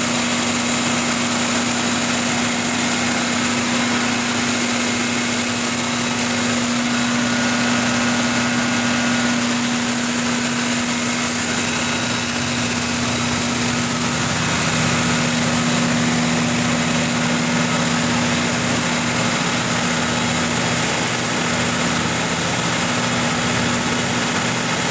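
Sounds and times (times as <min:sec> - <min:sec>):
diesel engine humming with whine: 0:00.0 - 0:24.9.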